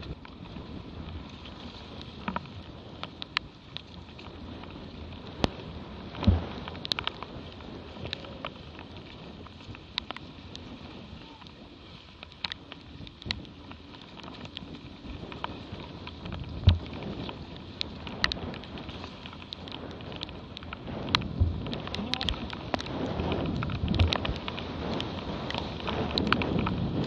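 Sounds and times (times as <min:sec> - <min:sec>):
water rushing along boat hulls: 0:00.0 - 0:27.0.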